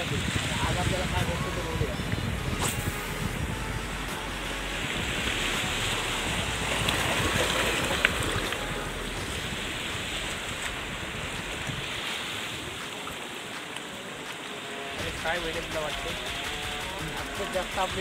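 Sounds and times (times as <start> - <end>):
sea surf washing on shore: 0.0 - 18.0.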